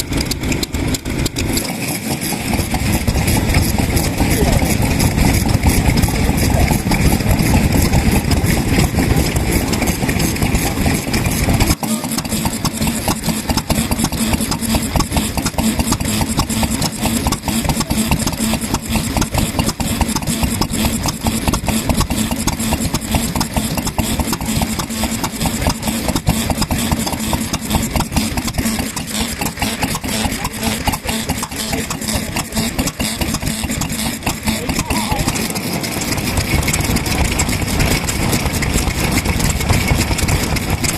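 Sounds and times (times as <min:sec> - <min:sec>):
another engine running: 0:00.0 - 0:40.9
stationary engine running: 0:00.0 - 0:40.9.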